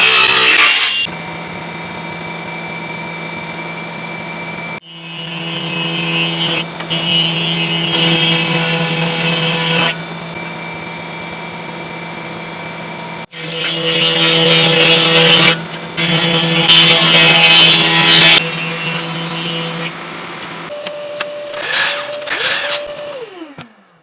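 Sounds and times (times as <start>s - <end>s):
power tool cutting wood: 0.0s - 1.5s, 2.2s - 24.0s
power tool humming: 0.0s - 24.0s.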